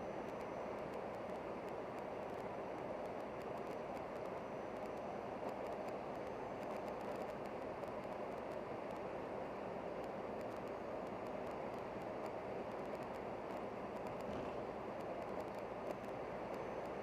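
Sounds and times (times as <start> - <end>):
faint ticks: 0.2 - 9.2, 9.9 - 17.0.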